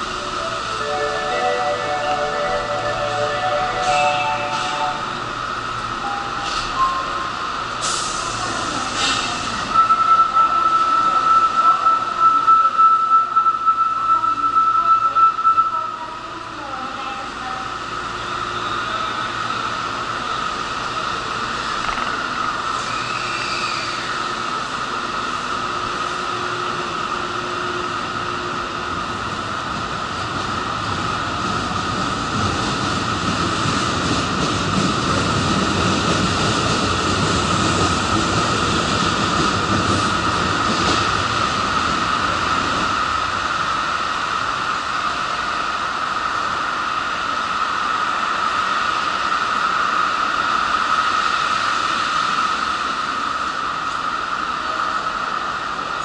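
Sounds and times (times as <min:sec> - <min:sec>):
metro train rumble: 0:00.0 - 0:56.0.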